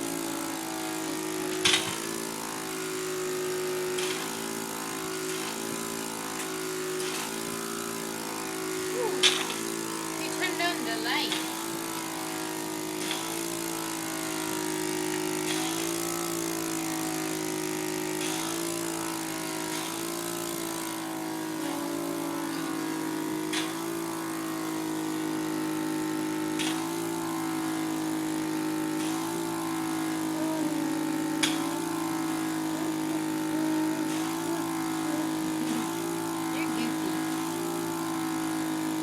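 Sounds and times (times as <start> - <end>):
machine motor hum: 0.0 - 39.0.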